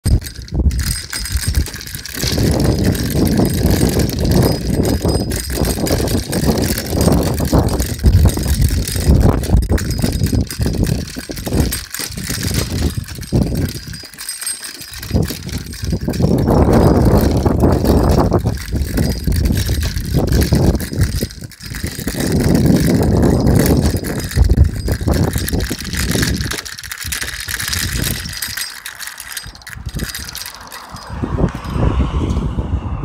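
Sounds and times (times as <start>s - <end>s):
bicycle rattling over concrete: 0.0s - 32.2s.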